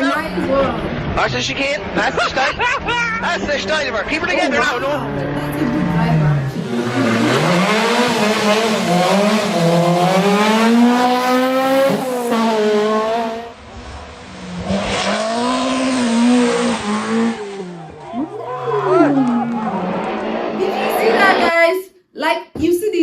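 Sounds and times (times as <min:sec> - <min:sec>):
rally car engine revving: 0:00.0 - 0:21.7.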